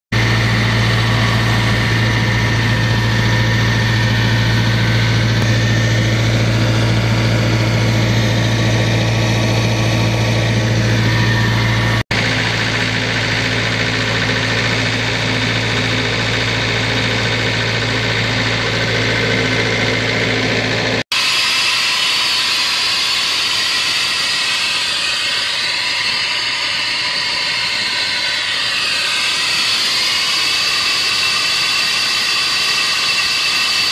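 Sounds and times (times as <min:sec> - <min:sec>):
diesel engine idling: 0:00.2 - 0:21.0, 0:21.9 - 0:33.3.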